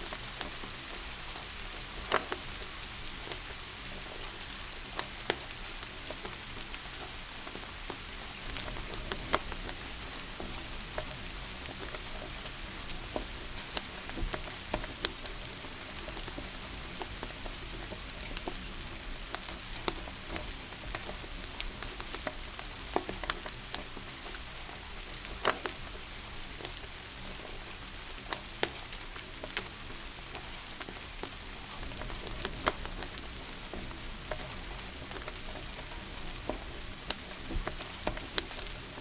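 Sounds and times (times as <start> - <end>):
steady rain hiss: 0.0 - 39.0
wood fire crackling: 0.0 - 39.0.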